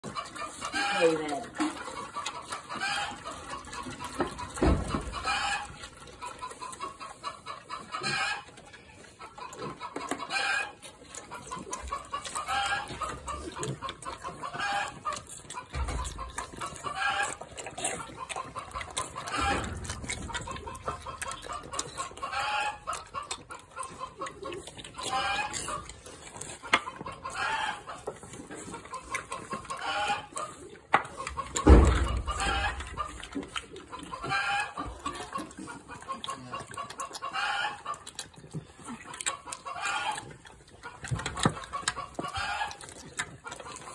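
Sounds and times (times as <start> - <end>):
chickens clucking: 0.0 - 43.9
piglets slurping milk: 0.0 - 43.9.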